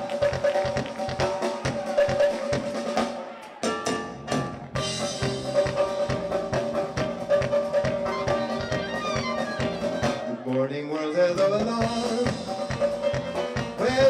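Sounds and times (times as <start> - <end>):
drum kit beat: 0.0 - 14.0
live band playing: 0.0 - 14.0.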